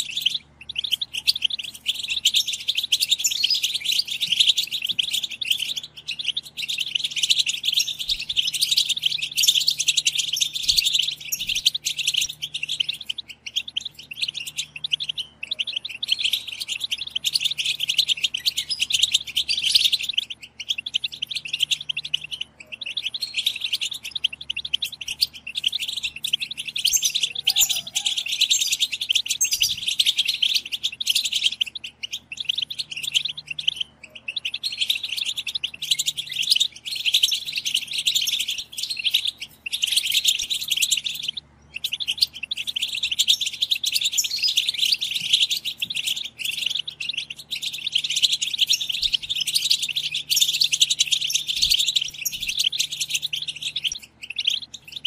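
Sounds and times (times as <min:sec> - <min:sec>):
goldfinches chattering: 0:00.0 - 0:55.0.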